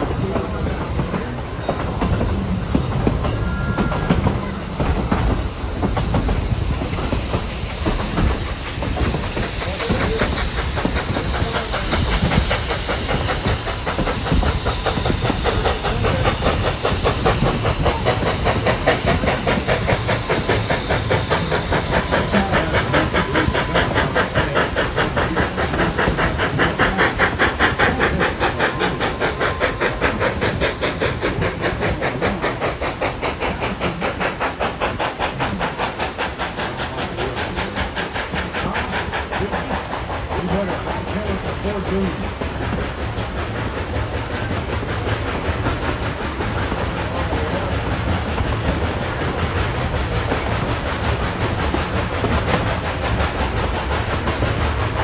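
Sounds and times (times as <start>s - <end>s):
hissing steam: 0.0s - 55.0s
steam locomotive chuffing: 0.0s - 55.0s.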